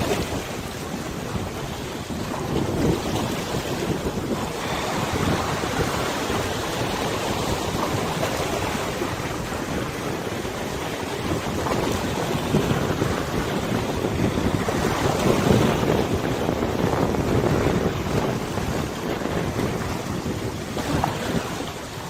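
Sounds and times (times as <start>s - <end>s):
water lapping: 0.0s - 22.0s
wind gusting on microphone: 0.0s - 22.0s.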